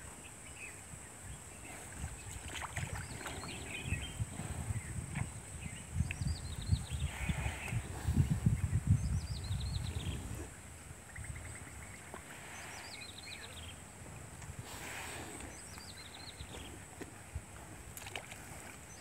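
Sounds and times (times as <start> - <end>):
wind buffeting microphone: 0.6 - 19.0.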